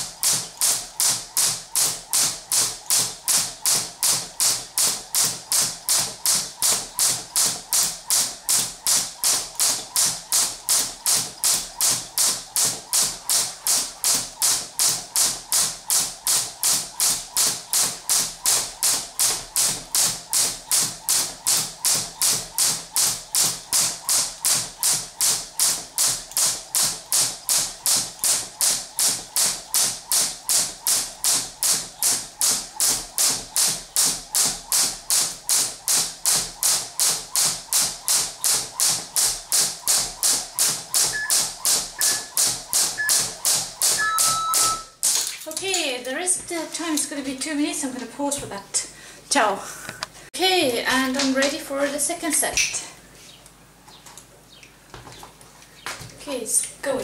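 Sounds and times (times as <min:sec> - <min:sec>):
jump rope slapping floor: 0:00.0 - 0:48.6, 0:50.9 - 0:52.7.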